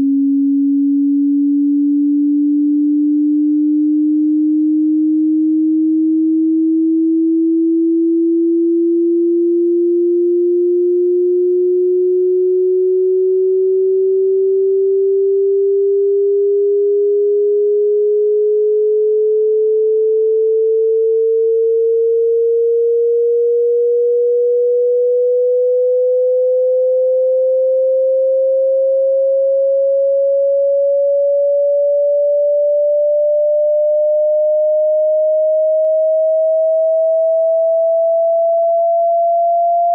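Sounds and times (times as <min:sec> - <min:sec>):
rising sine test tone: 0:00.0 - 0:39.9.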